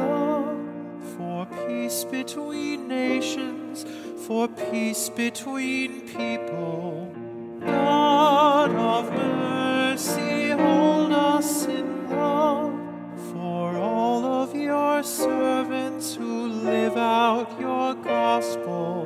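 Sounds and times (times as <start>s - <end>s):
grand piano accompaniment: 0.0s - 19.0s.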